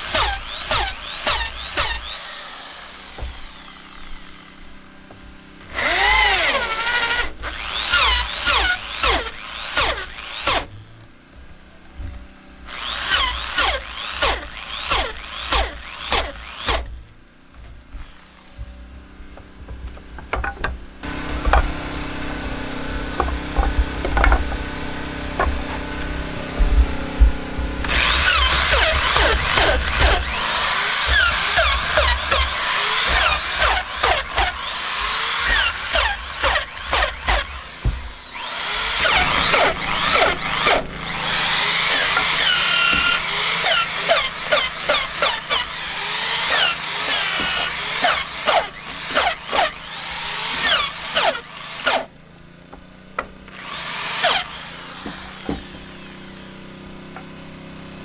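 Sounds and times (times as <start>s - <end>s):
power tool working wood: 0.0s - 11.1s, 11.9s - 17.2s, 17.8s - 52.2s, 53.2s - 57.5s.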